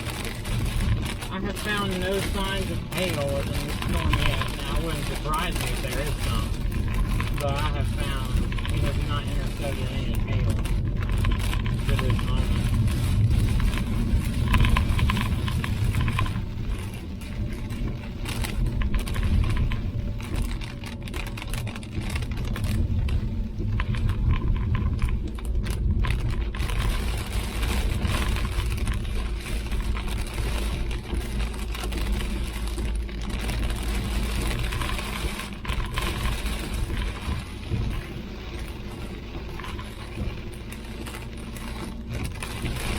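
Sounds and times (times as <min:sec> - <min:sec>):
road and engine rumble: 0:00.0 - 0:42.9.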